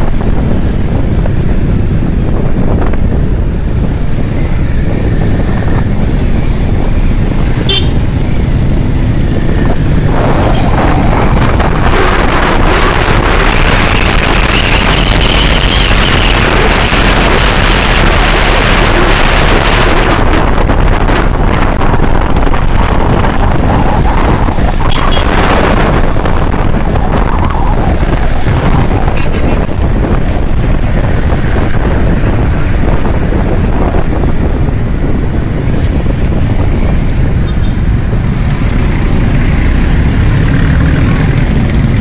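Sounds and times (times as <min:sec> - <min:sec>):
road and vehicle noise: 0:00.0 - 0:42.0
wind rushing on microphone: 0:00.0 - 0:42.0.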